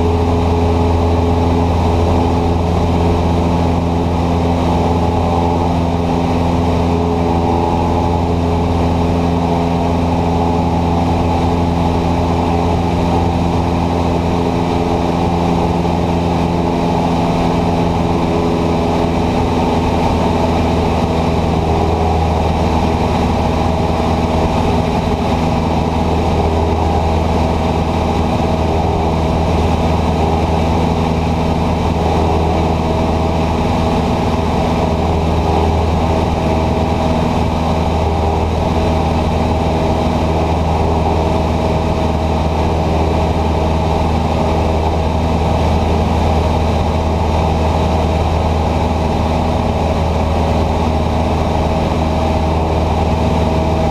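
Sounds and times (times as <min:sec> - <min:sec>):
airplane engine and propeller droning: 0:00.0 - 0:53.9.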